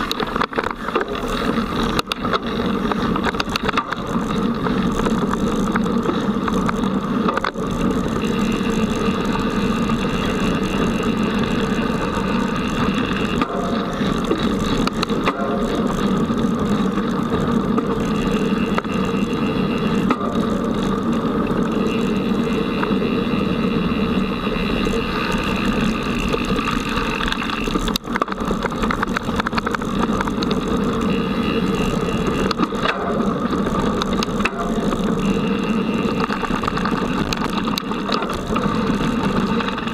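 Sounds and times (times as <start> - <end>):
bike frame rattling: 0.0 - 39.9
bike tyres rumbling on dirt: 0.0 - 39.9.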